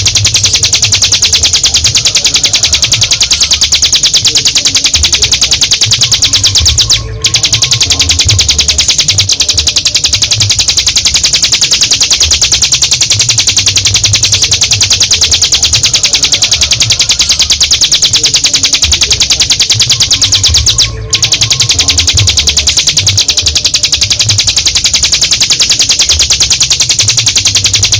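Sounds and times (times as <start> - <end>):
bird singing rapid trill: 0.0 - 27.9.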